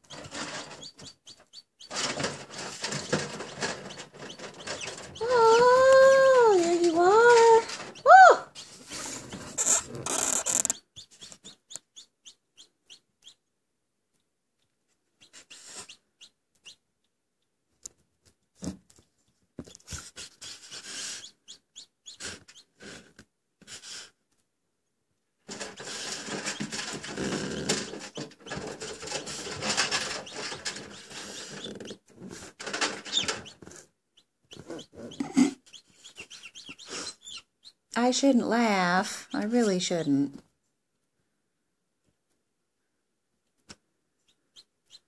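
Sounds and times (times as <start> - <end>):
chick scratching and rustling: 0.0 - 13.4, 14.9 - 16.8, 17.9 - 24.4, 25.4 - 39.9.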